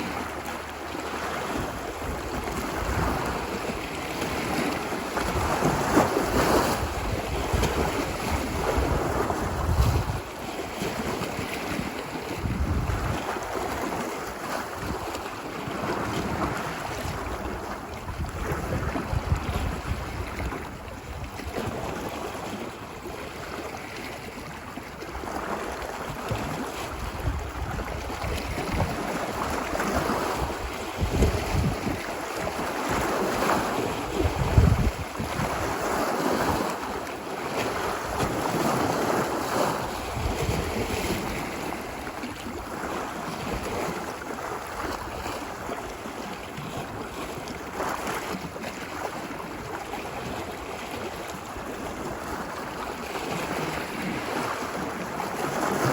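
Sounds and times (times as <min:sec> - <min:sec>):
ocean waves breaking: 0:00.0 - 0:55.9.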